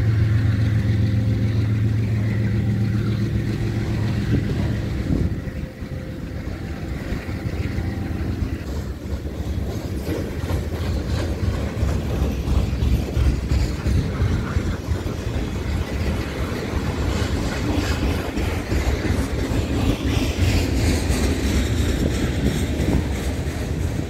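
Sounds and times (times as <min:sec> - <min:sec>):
freight train rumbling: 0:00.0 - 0:24.0
wheels clicking over rail joints: 0:00.0 - 0:24.0.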